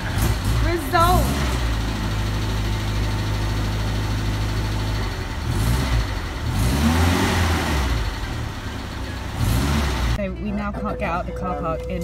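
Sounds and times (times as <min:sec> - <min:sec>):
small car engine idling and revving: 0:00.0 - 0:11.0.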